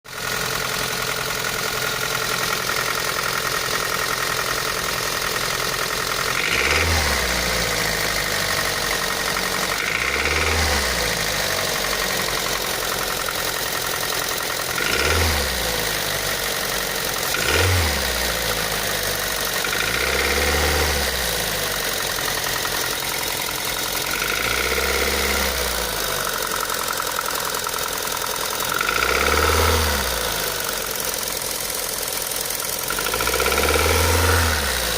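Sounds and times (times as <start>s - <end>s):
engine revving: 3.5s - 34.9s.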